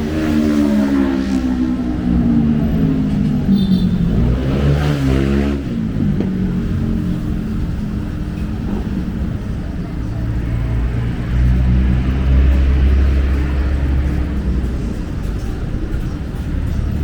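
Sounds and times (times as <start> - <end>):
deep engine rumble: 0.0 - 17.0
street traffic: 0.0 - 17.0.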